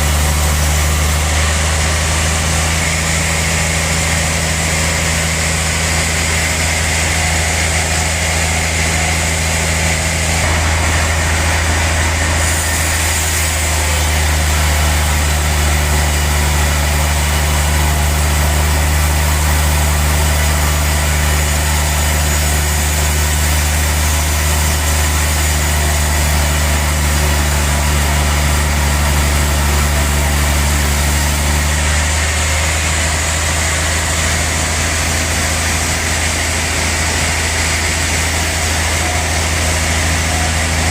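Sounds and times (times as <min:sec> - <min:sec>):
sawmill saw cutting log: 0:00.0 - 0:40.9.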